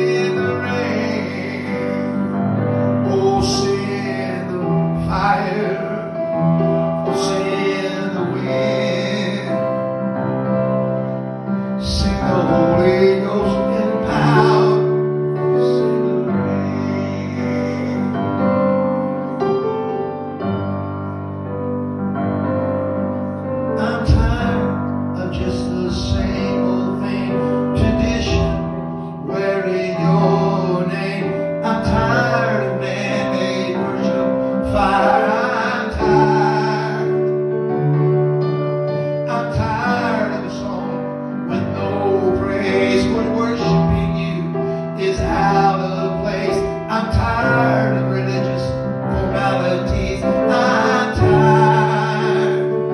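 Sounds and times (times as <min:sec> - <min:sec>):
person singing: 0:00.0 - 0:09.9, 0:11.8 - 0:19.5, 0:23.8 - 0:52.9
keyboard chords: 0:00.0 - 0:52.9.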